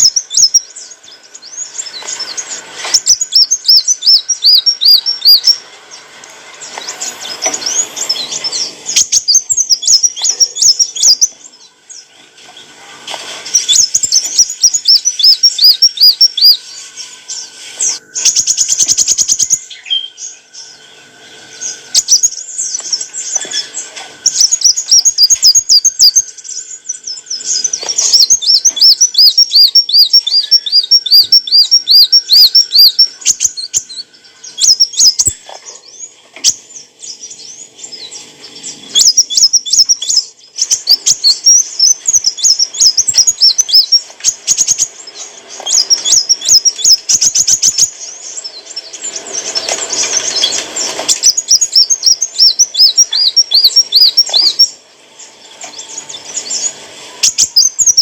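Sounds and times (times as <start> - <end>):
sunbird singing trills: 0.0 - 12.8, 13.4 - 58.0.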